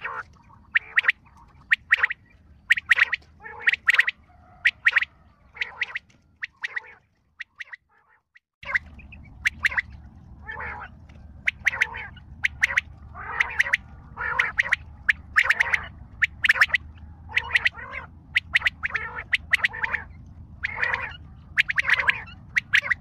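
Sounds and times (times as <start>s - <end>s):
low hum: 0.0s - 7.9s, 8.6s - 23.0s
bird calling harsh notes: 0.0s - 23.0s.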